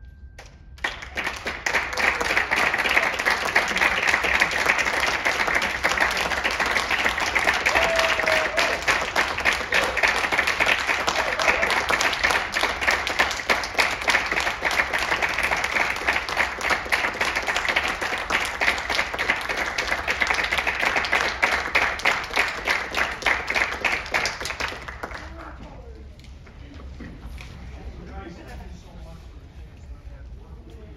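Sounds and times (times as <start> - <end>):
audience applauding: 0.8 - 25.6.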